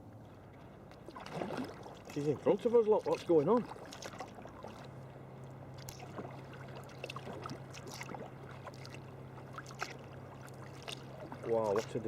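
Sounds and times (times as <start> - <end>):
steady low hum: 0.0 - 12.0
kayak paddle splashes: 0.5 - 5.0, 5.7 - 12.0
water dripping off paddle: 1.0 - 4.9, 5.8 - 12.0.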